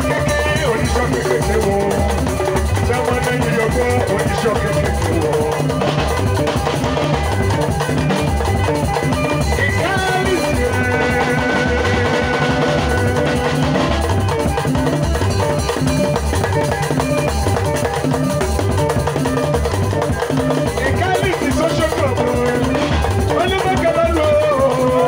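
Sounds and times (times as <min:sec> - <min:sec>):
band music with drums and bass: 0:00.0 - 0:25.0.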